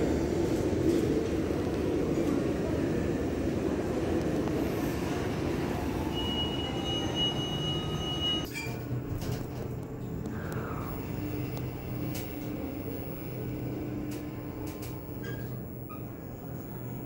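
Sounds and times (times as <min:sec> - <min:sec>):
low rumbling hum of mall atrium: 0:00.0 - 0:17.0.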